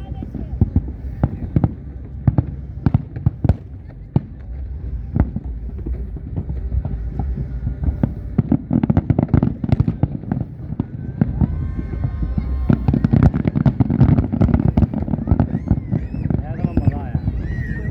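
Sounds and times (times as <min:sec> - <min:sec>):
fireworks bangs and crackles: 0:00.0 - 0:17.9.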